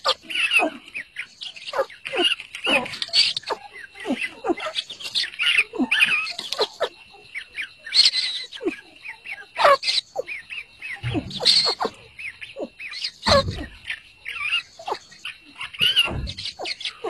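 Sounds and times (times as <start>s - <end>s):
chicks cheeping: 0.0s - 17.0s.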